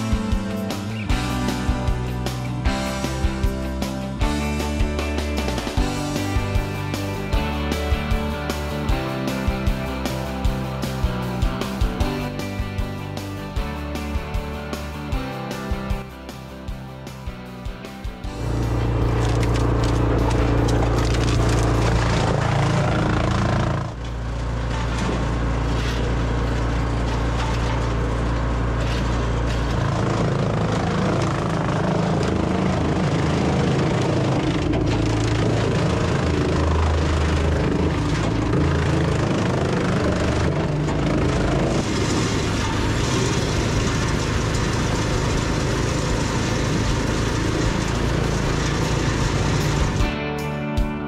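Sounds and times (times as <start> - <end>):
wood chipper engine under load: 0.0 - 50.3.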